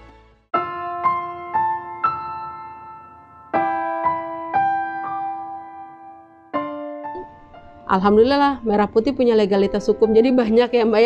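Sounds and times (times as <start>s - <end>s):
soft piano music: 0.5s - 11.0s.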